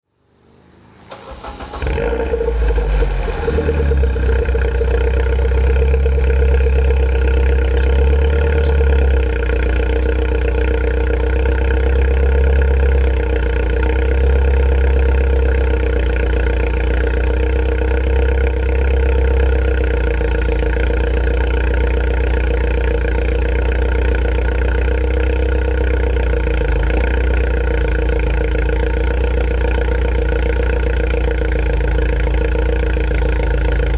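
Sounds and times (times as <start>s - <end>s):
car engine starting and idling: 0.1s - 33.9s.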